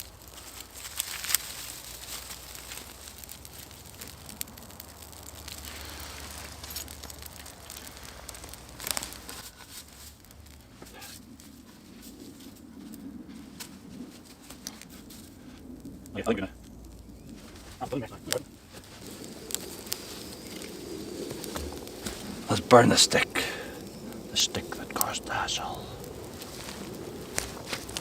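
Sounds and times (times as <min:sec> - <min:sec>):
dry kindling rustling: 0:00.0 - 0:28.0
sharp snaps of fire: 0:00.0 - 0:28.0
small fire crackling: 0:00.0 - 0:28.0.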